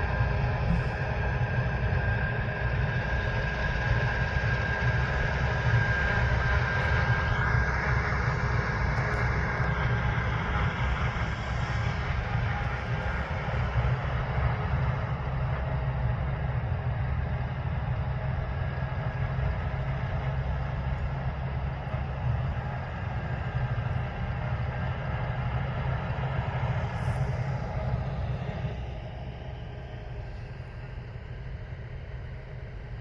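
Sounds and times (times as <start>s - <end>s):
diesel machinery engine drone: 0.0s - 33.0s.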